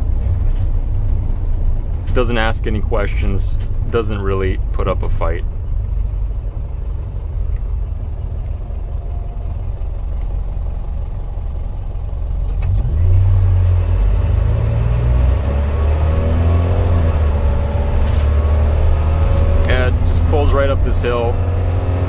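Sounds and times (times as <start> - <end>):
diesel bus engine rumbling: 0.0 - 22.0.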